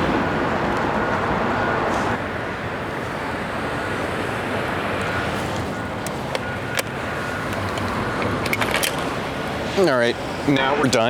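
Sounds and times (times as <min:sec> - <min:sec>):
vehicle rumble and hiss: 0:00.0 - 0:11.0.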